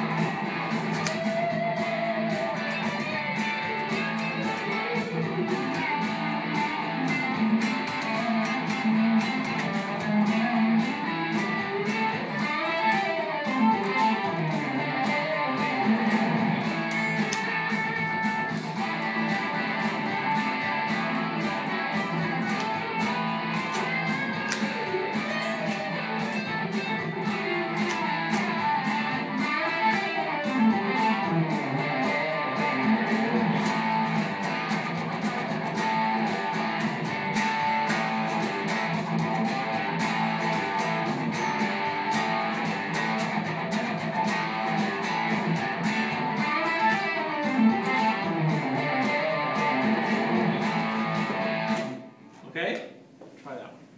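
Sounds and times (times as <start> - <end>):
electric guitar rock riff: 0.0 - 52.3
backing track with steady beat: 0.0 - 53.9.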